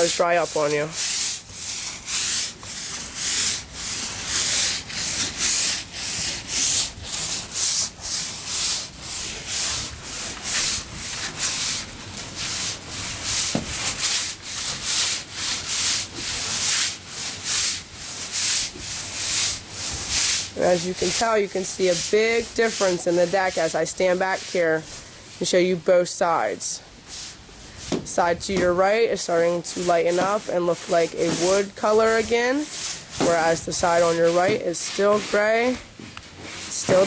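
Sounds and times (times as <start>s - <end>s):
brush scrubbing wet wooden boards: 0.0s - 37.0s.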